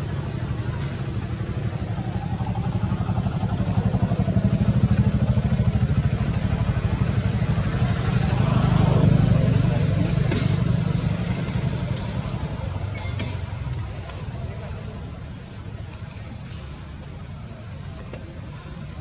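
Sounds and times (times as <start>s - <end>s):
small engine rumbling: 0.0s - 19.0s.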